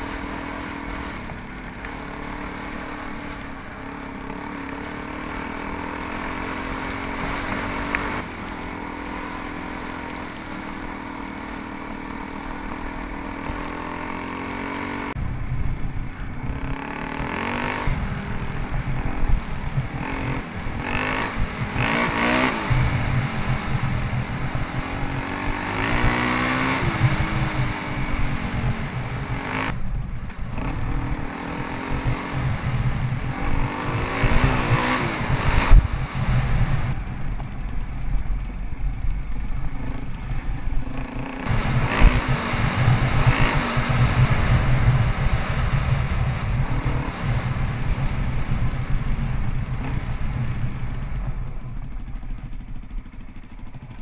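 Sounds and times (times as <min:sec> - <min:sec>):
dirt bike engine revving: 0:00.0 - 0:15.2, 0:16.3 - 0:37.0, 0:39.5 - 0:54.0.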